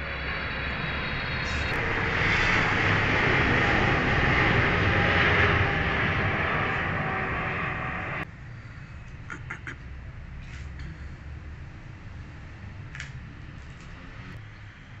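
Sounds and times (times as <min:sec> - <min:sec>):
jet airliner engine roar: 0:00.0 - 0:15.0.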